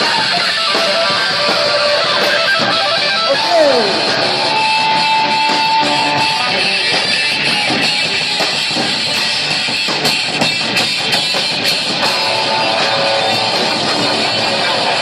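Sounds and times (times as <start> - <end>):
heavy metal band playing: 0.0 - 15.0
sharp drum and cymbal hits: 0.0 - 15.0.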